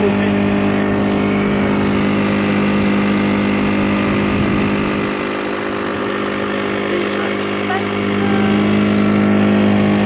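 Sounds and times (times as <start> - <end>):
small boat motor running: 0.0 - 10.0.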